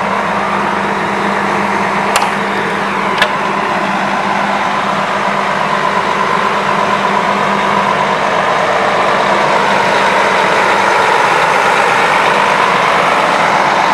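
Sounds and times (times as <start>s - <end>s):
bus engine idling: 0.0s - 13.9s
high engine whine: 0.0s - 13.9s.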